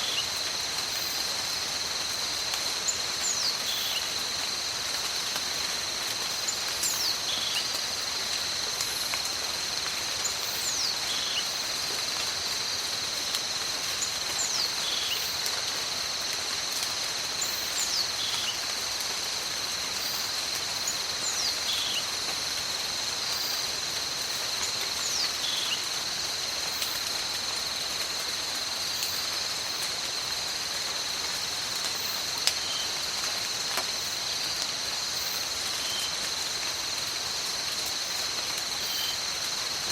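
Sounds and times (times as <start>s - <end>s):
high insect drone: 0.0s - 39.9s
steady tropical rain: 0.0s - 39.9s.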